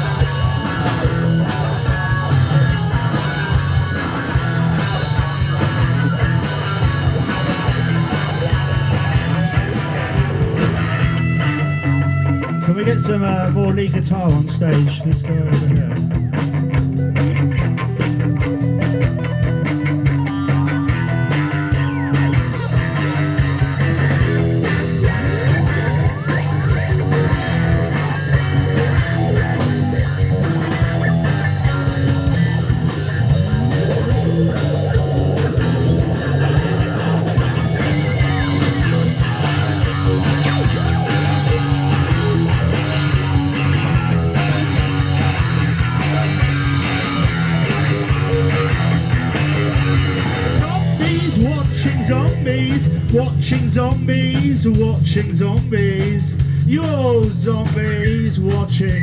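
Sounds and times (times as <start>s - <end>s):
bass line: 0.0s - 59.0s
drums and cymbals: 0.0s - 59.0s
electric guitar lead: 0.0s - 59.0s.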